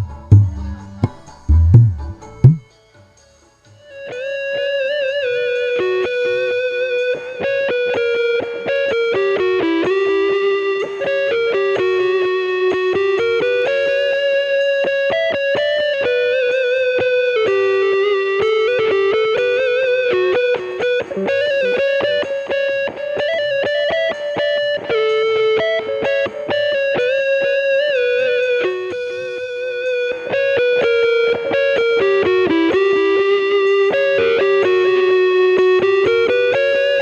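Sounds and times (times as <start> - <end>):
distorted electric guitar melody: 0.0 - 2.7, 3.9 - 37.0.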